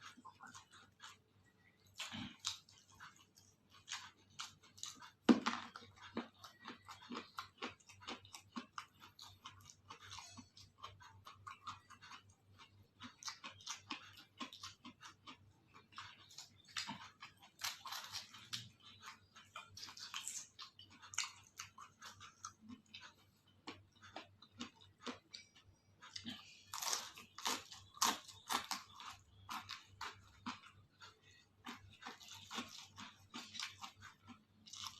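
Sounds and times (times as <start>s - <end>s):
chewing crunchy food: 0.0s - 34.9s.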